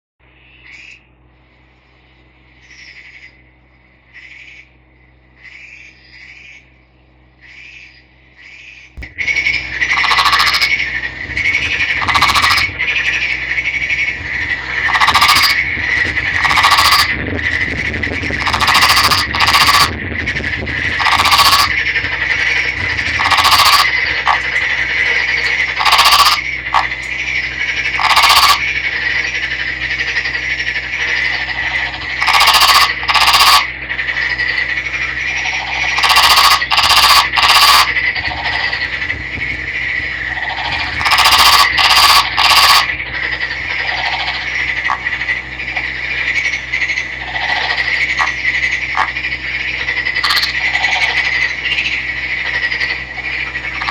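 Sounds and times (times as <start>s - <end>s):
frog rattling croaks: 4.1s - 6.6s, 7.4s - 53.9s
steady high-pitched tone: 9.0s - 53.9s.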